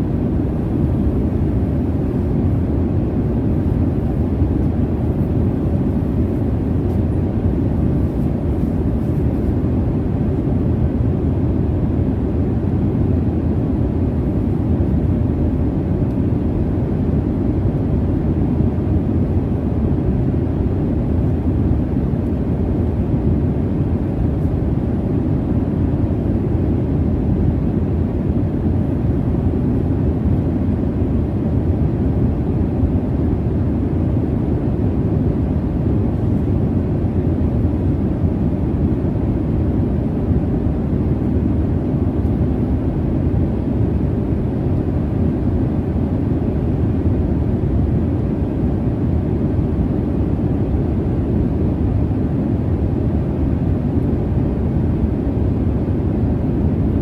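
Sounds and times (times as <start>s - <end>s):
faint steady hum: 0.0s - 57.0s
jet airliner cabin rumble: 0.0s - 57.0s.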